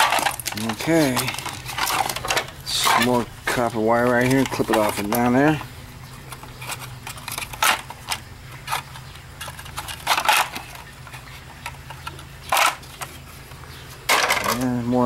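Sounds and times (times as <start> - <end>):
low steady hum: 0.0 - 15.0
parts clattering: 0.0 - 15.0.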